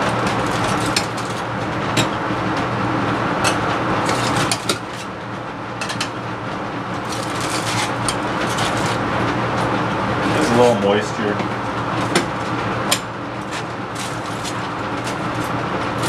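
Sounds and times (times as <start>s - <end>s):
blower fan humming: 0.0s - 16.0s.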